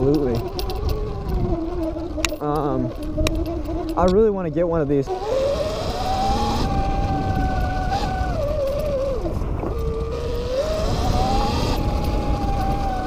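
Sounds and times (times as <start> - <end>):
electric motor whining: 0.0 - 13.0
wind and tyres on dirt: 0.0 - 13.0.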